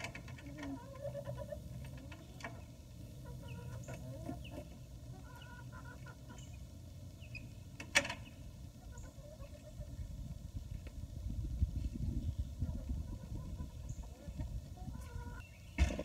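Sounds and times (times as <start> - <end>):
hens clucking: 0.0 - 11.0, 11.8 - 16.0.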